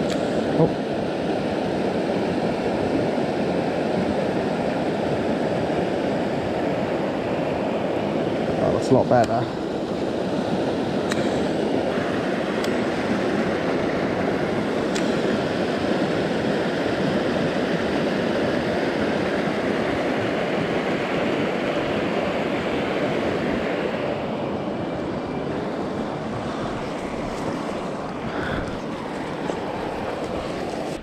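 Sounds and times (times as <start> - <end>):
river water rushing over weir: 0.0 - 31.0.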